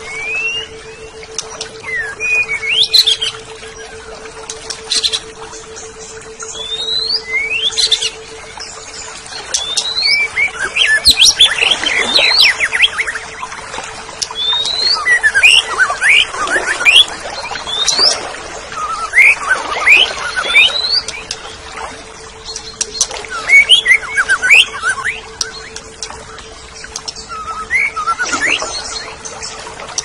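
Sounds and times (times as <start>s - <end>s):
bird singing whistled notes: 0.0s - 13.5s, 14.2s - 21.6s, 22.4s - 30.0s
faint steady hum: 0.0s - 30.0s.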